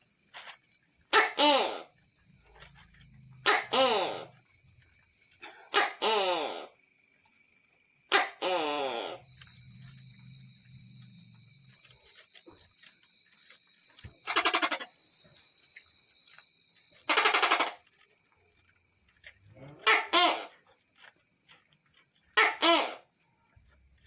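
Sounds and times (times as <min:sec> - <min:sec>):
gecko calling: 0:00.0 - 0:24.0
high-pitched insect chorus: 0:00.0 - 0:24.0.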